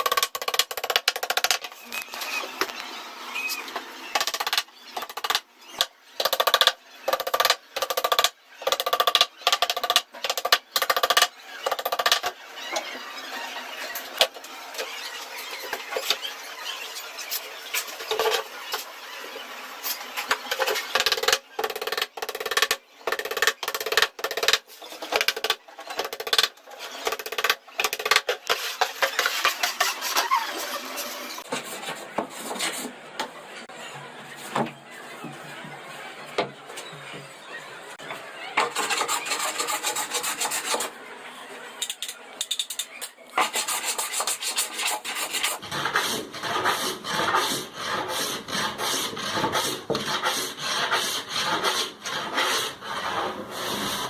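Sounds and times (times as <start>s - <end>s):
woodworking tool squealing: 0.0s - 31.5s, 33.8s - 40.9s, 41.8s - 54.0s.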